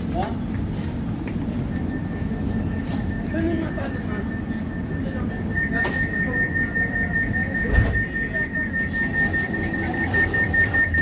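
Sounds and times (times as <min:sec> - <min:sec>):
tram low rumble: 0:00.0 - 0:11.0
high steady whine: 0:01.0 - 0:11.0.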